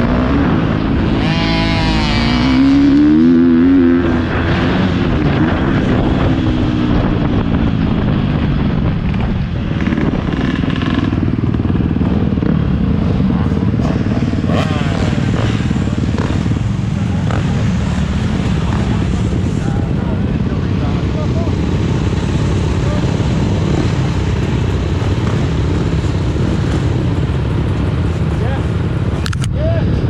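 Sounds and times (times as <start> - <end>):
dirt bike engine revving: 0.0 - 29.2.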